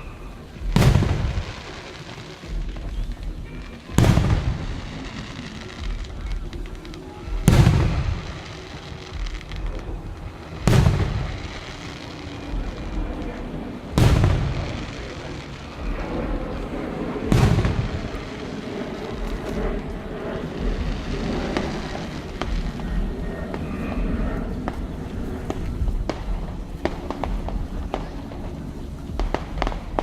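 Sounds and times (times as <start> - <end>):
fireworks booms with echo: 0.0 - 30.0.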